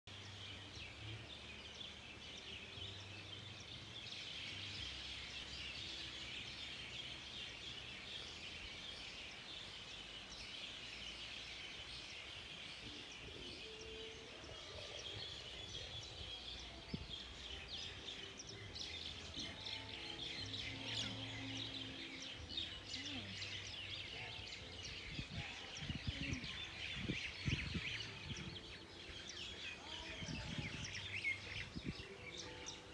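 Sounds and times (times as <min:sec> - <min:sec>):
birds chirping in chorus: 0:00.1 - 0:32.9.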